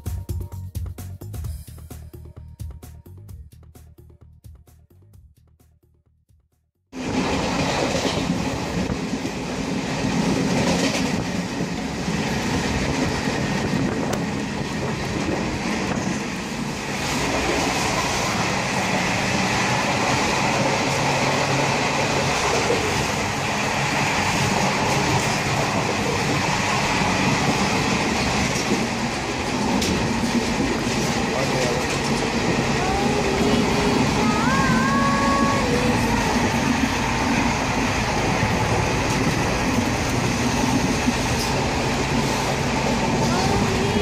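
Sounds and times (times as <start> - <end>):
wheels clacking over rail joints: 7.0 - 34.8, 35.9 - 44.0
train rumble and rattle: 7.0 - 44.0.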